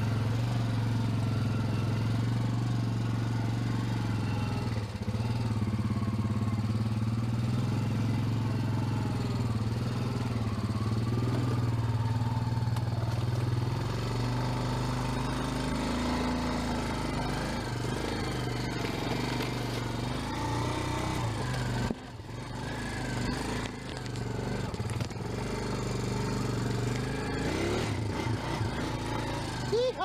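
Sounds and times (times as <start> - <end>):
small vehicle engine running: 0.0 - 30.0.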